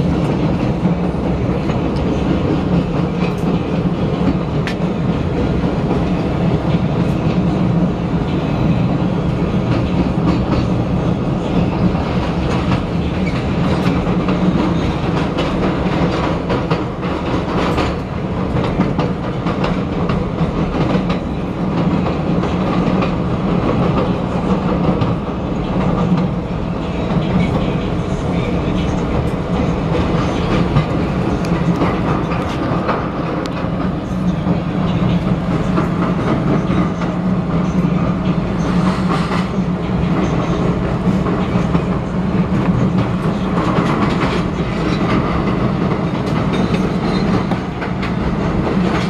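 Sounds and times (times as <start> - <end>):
rail car motors and wheels rumbling: 0.0 - 49.0
rail joint clicks: 0.0 - 49.0.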